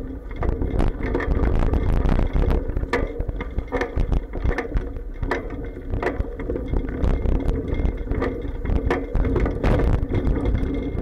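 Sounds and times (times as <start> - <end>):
bicycle riding rumble: 0.0 - 11.0
bike clacking over bumps: 0.0 - 11.0.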